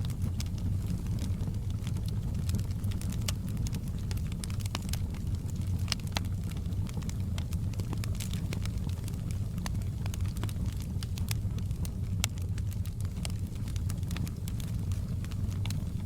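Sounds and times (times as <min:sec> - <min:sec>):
fire crackling and popping: 0:00.0 - 0:16.0
log fire rumbling: 0:00.0 - 0:16.0.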